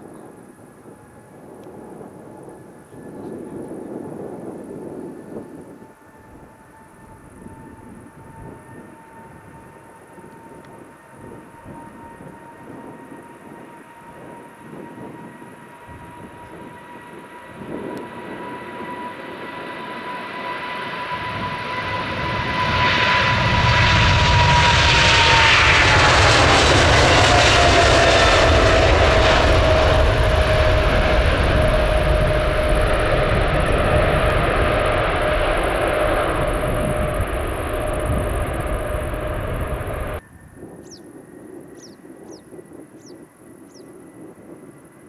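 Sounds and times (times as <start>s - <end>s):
engine fan whine: 0.0s - 45.0s
jet airliner engines roaring: 0.0s - 45.0s.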